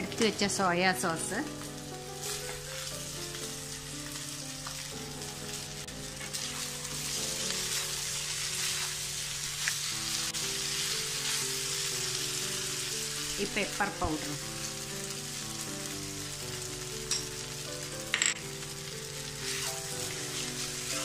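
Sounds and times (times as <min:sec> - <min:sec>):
noodles sizzling in a pan: 0:00.0 - 0:21.0.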